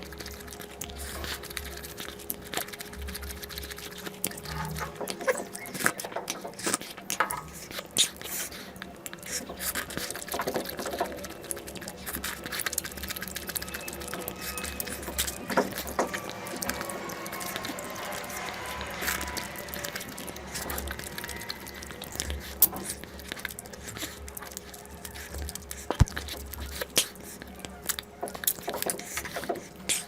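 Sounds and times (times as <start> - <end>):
wet chewing: 0.0 - 30.0.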